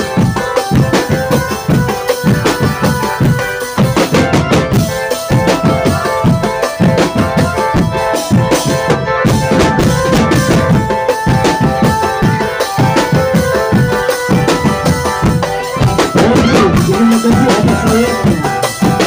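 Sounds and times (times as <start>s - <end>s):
fast dense drumming: 0.0s - 19.0s
sustained melody line: 0.0s - 19.0s.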